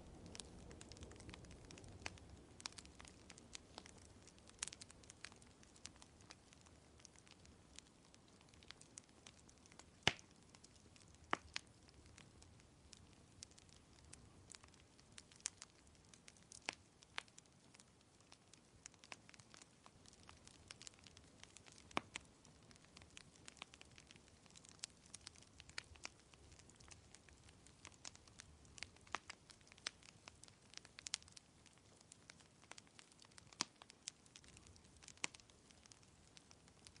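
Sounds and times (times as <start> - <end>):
faint low hiss: 0.0 - 37.0
wood fire crackling and popping: 0.0 - 37.0.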